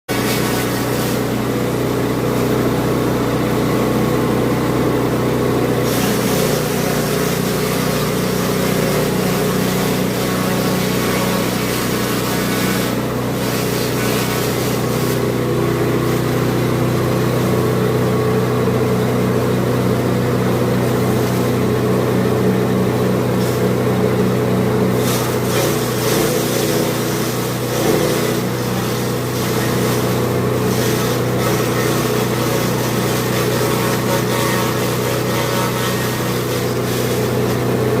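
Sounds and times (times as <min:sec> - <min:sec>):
engine-driven chaff cutter running: 0:00.1 - 0:38.0.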